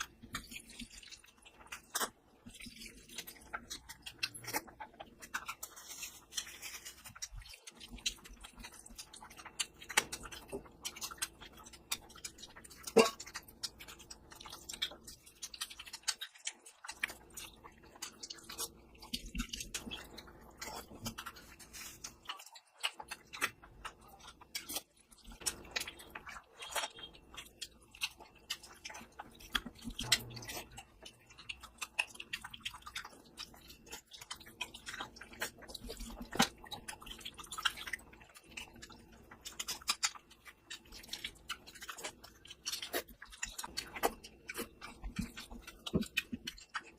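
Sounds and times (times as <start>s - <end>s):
wet chewing mouth clicks: 0.0s - 46.9s.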